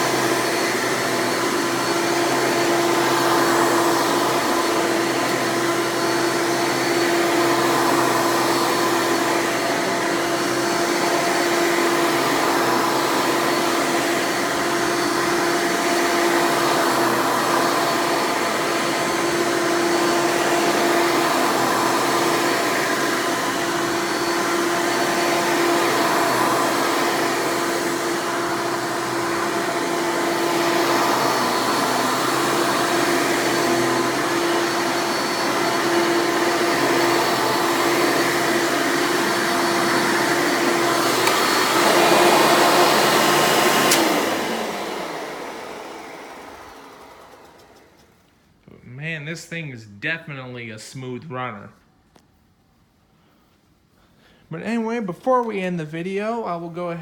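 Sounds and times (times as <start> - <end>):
vacuum cleaner motor humming: 0.0 - 48.2.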